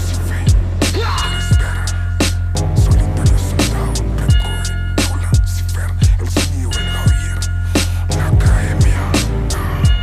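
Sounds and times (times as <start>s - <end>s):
deep sustained bass: 0.0s - 10.0s
hip-hop instrumental beat: 0.0s - 10.0s.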